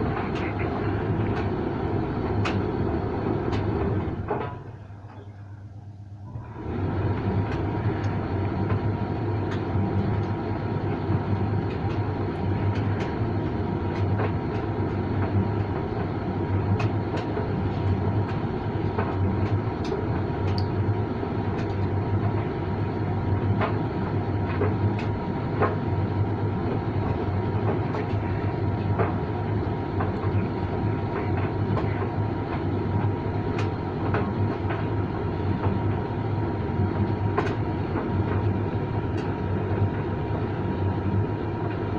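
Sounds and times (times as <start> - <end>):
tumble dryer running: 0.0 - 5.0, 6.2 - 41.9
thin steady whine: 0.0 - 41.9.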